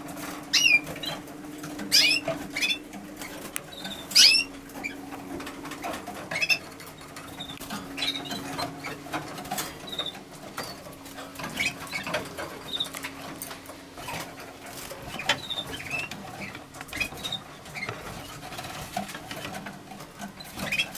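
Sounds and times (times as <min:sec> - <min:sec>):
steady low hum: 0:00.0 - 0:20.8
birds scratching in cage: 0:00.0 - 0:20.9
canaries chirping: 0:00.0 - 0:20.9.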